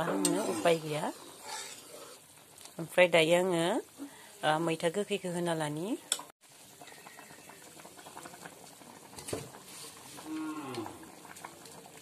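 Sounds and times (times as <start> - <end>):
curry bubbling in a pan: 0.0 - 5.1, 6.1 - 12.0.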